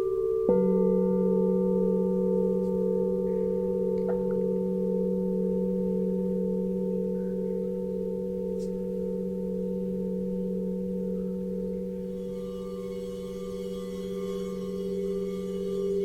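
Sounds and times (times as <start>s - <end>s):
higher bright ringing tone: 0.0s - 16.0s
singing bowls ringing: 0.0s - 16.0s.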